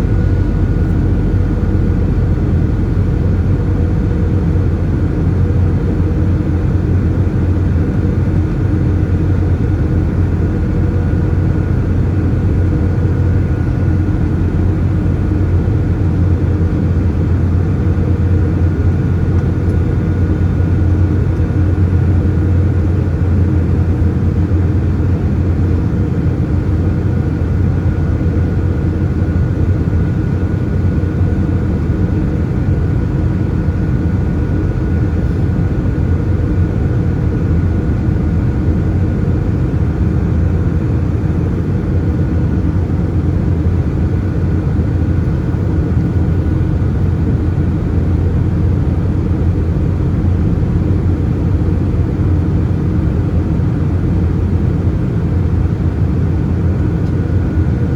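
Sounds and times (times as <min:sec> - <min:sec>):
aircraft engine and airflow drone: 0:00.0 - 0:57.9.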